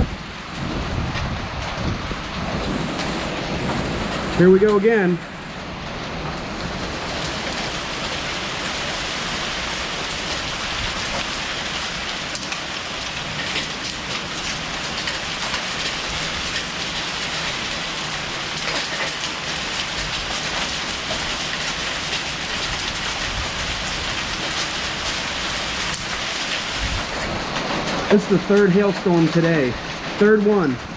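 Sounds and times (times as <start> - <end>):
heavy rain hissing: 0.0 - 30.9
hailstones ticking: 0.4 - 30.9.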